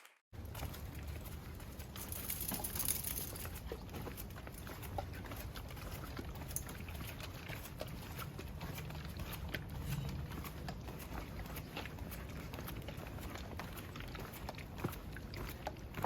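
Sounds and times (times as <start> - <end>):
light footsteps pattering: 0.4 - 16.0.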